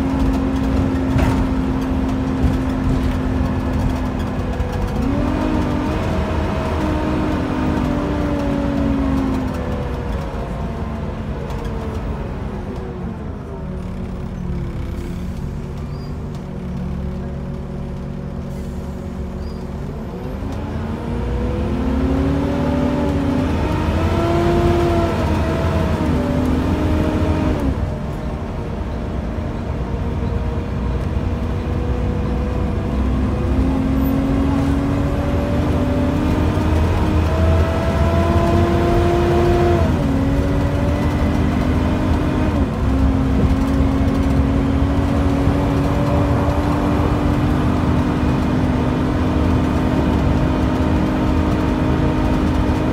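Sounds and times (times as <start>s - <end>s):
bus diesel engine accelerating: 0.0s - 52.9s.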